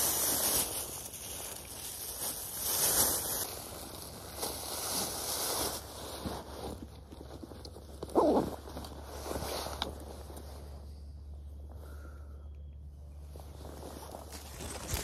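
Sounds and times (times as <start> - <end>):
plastic bag rustling: 0.0 - 10.9, 13.3 - 15.0
backpack fabric and strap rustle: 0.0 - 11.3, 13.2 - 15.0.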